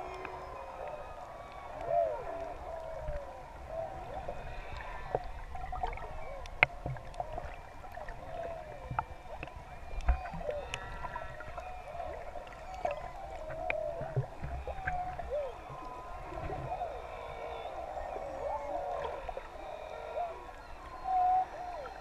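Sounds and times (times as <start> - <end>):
low rumble of moving water: 0.0 - 22.0
whale song underwater: 0.0 - 22.0.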